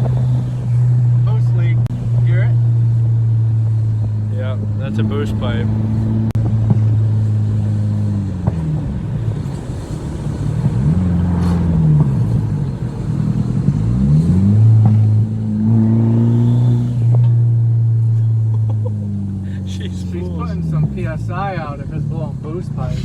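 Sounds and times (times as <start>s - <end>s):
turbocharged car engine revving: 0.0s - 23.0s.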